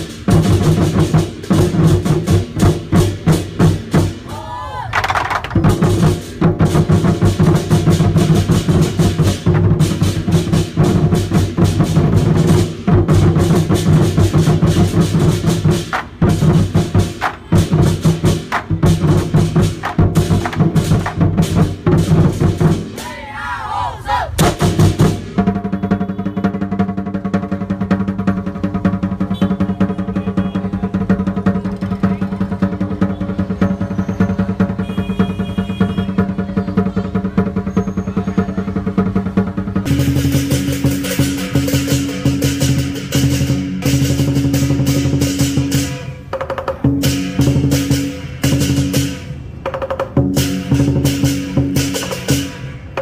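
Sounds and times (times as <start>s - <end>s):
drum and cymbal strikes: 0.0s - 4.3s, 5.6s - 23.2s, 24.3s - 53.0s.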